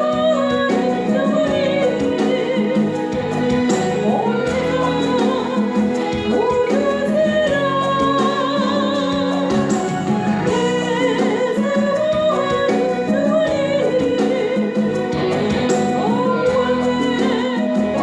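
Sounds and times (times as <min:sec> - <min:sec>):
instrumental accompaniment: 0:00.0 - 0:18.0
person singing with vibrato: 0:00.0 - 0:18.0.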